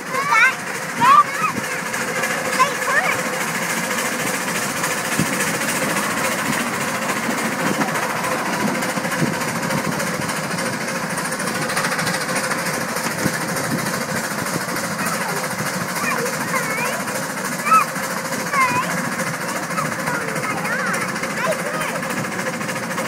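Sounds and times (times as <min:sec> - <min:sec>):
miniature steam train clattering: 0:00.0 - 0:23.0.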